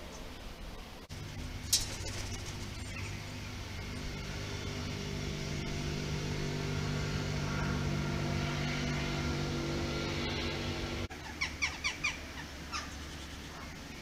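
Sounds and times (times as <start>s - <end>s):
steady engine drone: 0.8s - 14.0s.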